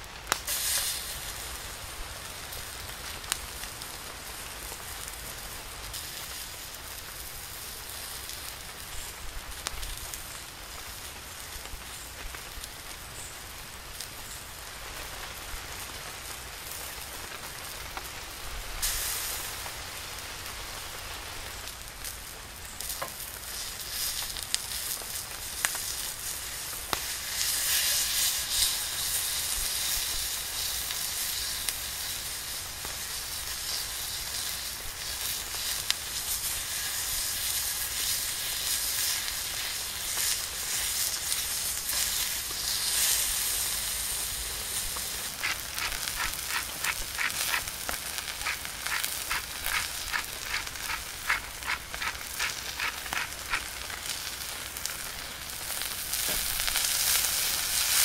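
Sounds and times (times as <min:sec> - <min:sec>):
wood fire popping and crackling: 0:00.0 - 0:58.0
steak sizzling in skillet: 0:00.3 - 0:58.0.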